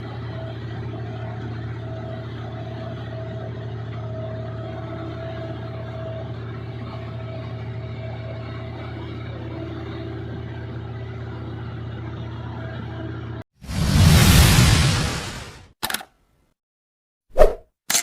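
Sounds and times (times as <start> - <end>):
combine harvester engine drone: 0.0 - 15.4.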